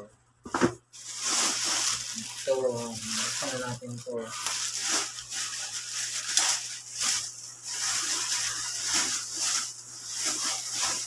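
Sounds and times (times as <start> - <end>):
plastic bag crinkling: 0.9 - 11.0.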